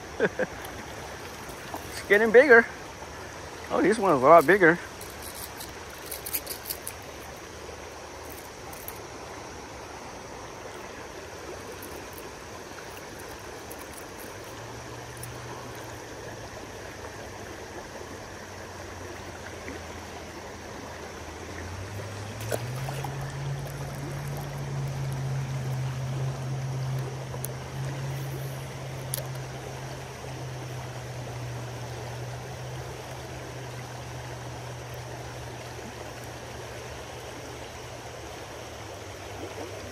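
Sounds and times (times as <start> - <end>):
low steady hum: 0.0 - 39.9
water rushing over rocks: 0.0 - 39.9.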